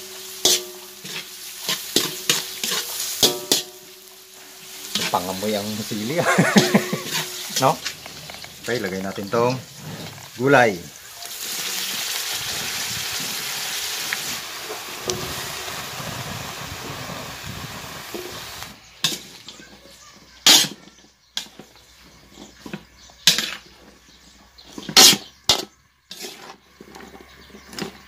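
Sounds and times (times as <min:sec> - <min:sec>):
metal utensil scraping a wok: 0:00.0 - 0:16.4, 0:17.6 - 0:28.0
vegetables sizzling in a wok: 0:00.0 - 0:28.0.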